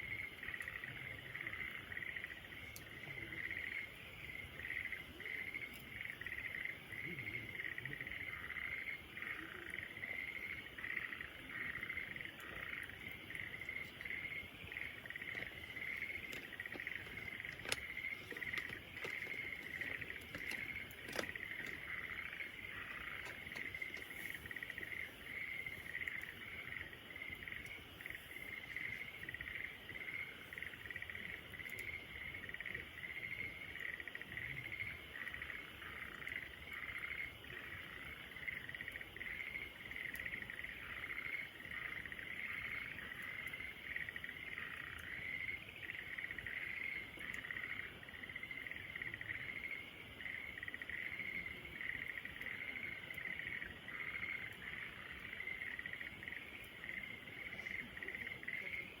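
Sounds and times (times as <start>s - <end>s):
campfire crackles: 0.0s - 59.0s
insects chirping: 0.0s - 59.0s.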